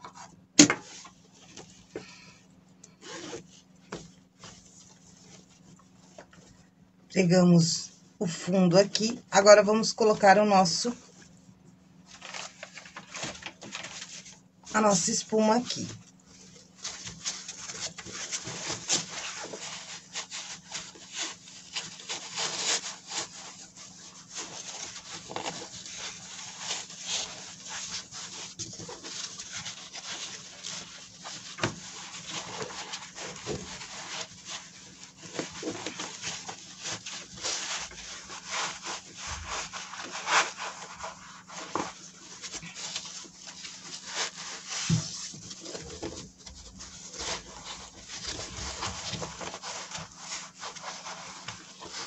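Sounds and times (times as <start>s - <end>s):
foam and fabric rustling: 0.0s - 52.0s.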